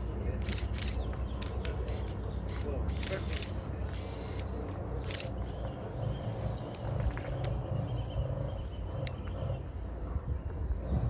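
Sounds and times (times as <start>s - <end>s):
tractor engine low rumble: 0.0s - 11.0s.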